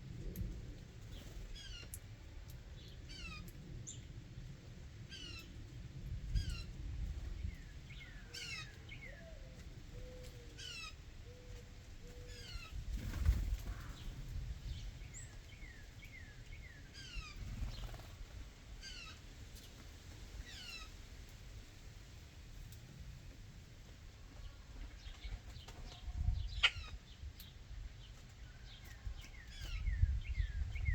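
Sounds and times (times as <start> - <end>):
songbirds singing: 0.2 - 4.2, 5.0 - 21.0, 24.3 - 30.9.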